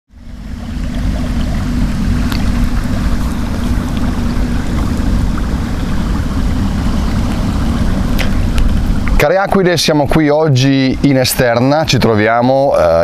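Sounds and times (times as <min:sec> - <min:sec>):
loud low rumble: 0:00.1 - 0:12.0.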